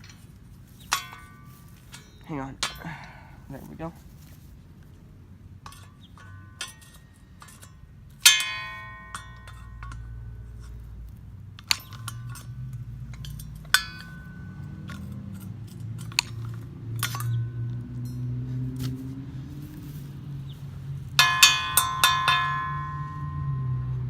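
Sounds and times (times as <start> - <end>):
metal tools clinking on blade: 0.0 - 4.0, 5.6 - 23.8.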